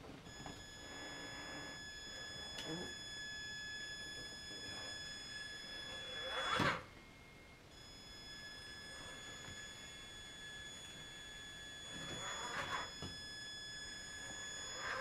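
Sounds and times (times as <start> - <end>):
electric motor whining: 0.3 - 6.9, 7.8 - 15.0.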